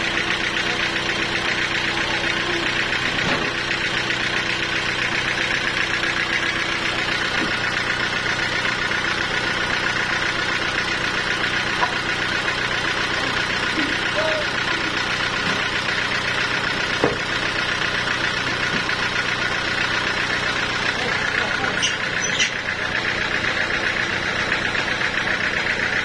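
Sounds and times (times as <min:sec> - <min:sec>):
sawmill engine humming: 0:00.0 - 0:26.0.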